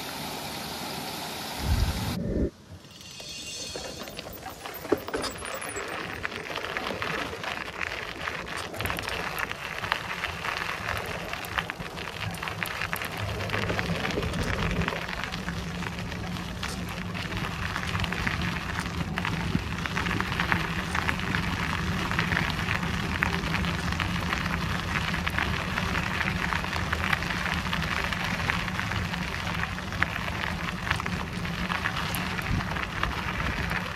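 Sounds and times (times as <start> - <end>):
low rumble: 1.6 - 33.9
bicycle tyres on gravel: 2.7 - 33.9.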